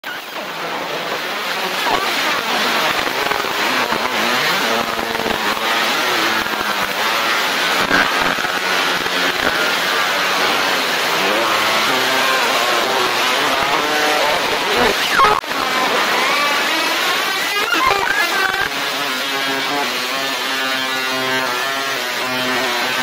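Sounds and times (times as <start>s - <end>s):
warbling tones: 0.0s - 18.7s.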